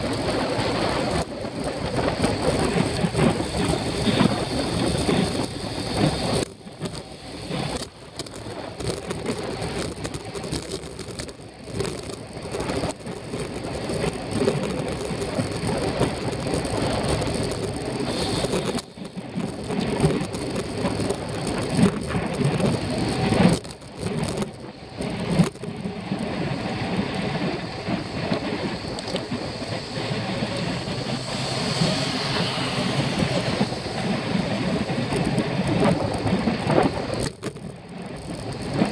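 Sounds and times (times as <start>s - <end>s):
tyre noise on road: 0.0s - 38.9s
wind rushing over microphone: 0.0s - 38.9s.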